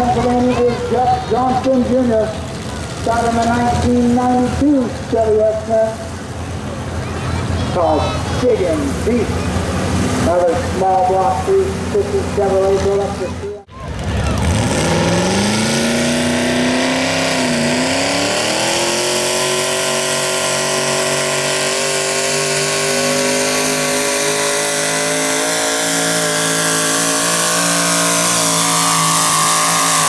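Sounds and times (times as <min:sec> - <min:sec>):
truck engine running flat out: 0:00.0 - 0:30.0.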